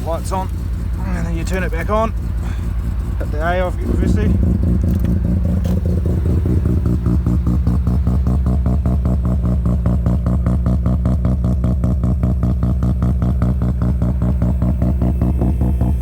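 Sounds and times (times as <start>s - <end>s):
rotary engine choppy idle: 0.0s - 16.0s.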